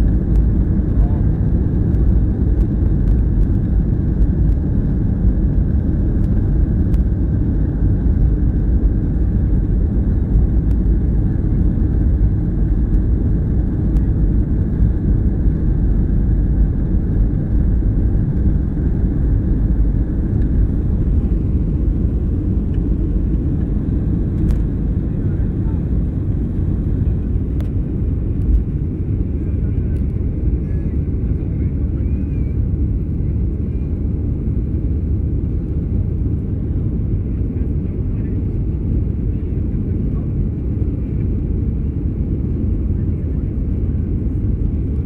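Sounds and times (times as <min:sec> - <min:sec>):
jet airliner taxiing rumble: 0:00.0 - 0:45.0.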